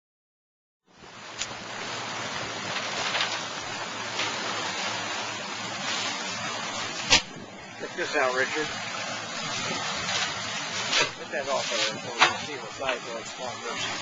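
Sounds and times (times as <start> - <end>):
wind: 0.8 - 14.0
water noise: 0.9 - 14.0.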